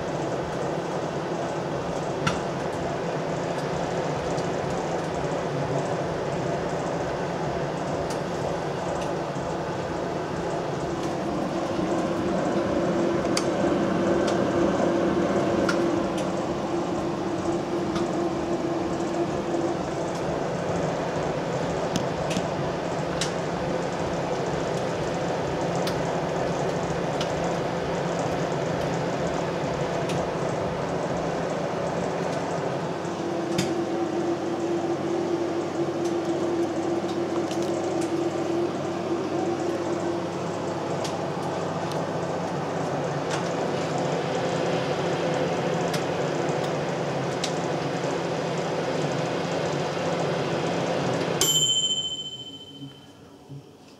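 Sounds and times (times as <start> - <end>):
fan whir: 0.0 - 53.9
microwave oven hum: 0.0 - 53.9.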